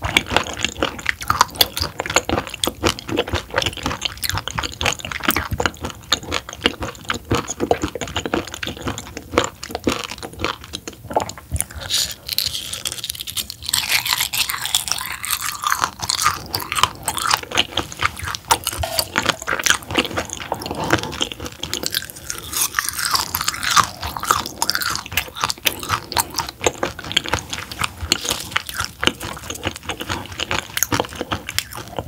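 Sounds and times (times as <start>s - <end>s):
close chewing with wet clicks: 0.0s - 11.8s, 12.4s - 32.0s.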